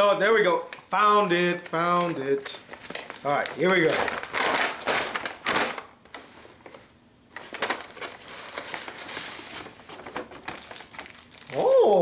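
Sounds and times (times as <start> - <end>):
paper bag and cellophane crinkling: 0.6 - 12.0.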